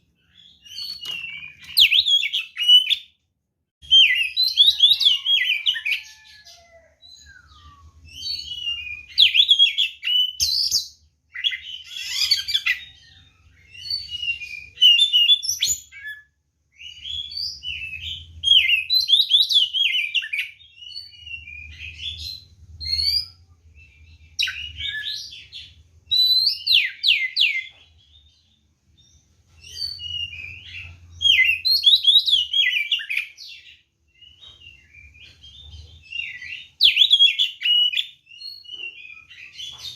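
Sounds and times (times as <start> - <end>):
magpie-robin singing: 0.2 - 3.2, 3.8 - 6.2, 7.0 - 39.9.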